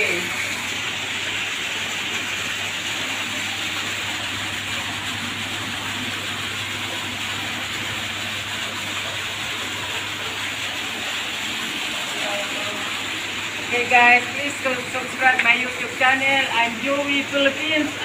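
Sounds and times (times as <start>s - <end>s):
water rushing in aquarium: 0.0s - 18.0s.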